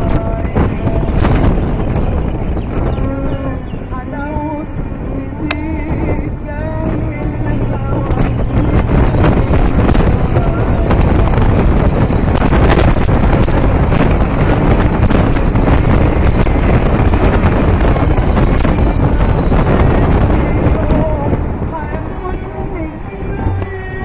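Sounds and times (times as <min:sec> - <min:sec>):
car road and engine noise: 0:00.0 - 0:24.0
wind buffeting microphone: 0:00.0 - 0:24.0.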